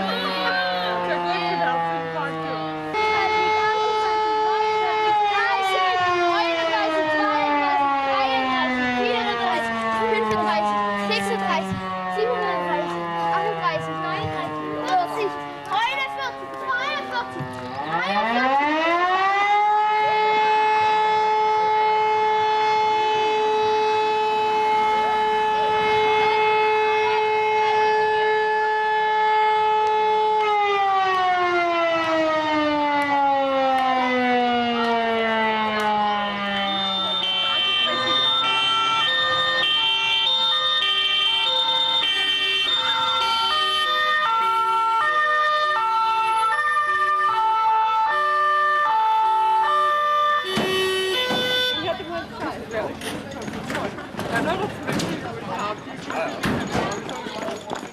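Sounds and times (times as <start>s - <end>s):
civil defence siren wailing: 0.0s - 56.1s.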